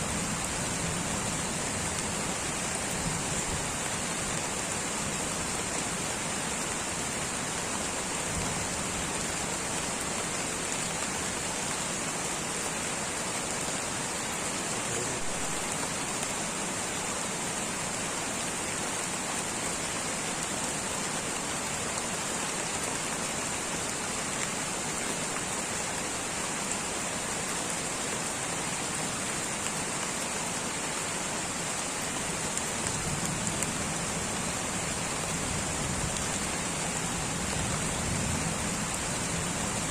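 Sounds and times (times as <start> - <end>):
light rain on foliage: 0.0 - 39.9.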